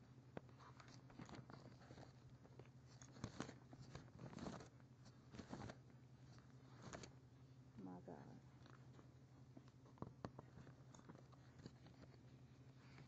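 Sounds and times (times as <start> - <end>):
low electrical hum: 0.0 - 13.0
soft rustles: 0.0 - 13.0.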